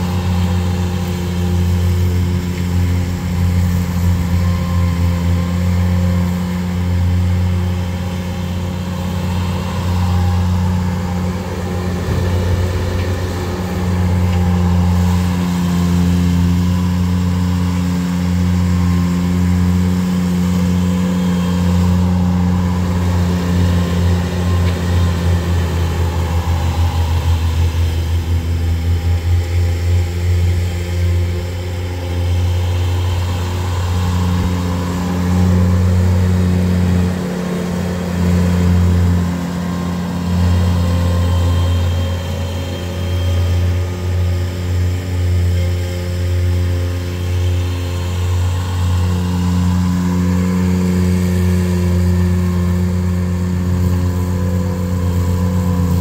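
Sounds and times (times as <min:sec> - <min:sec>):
small tractor engines running: 0:00.0 - 0:56.0.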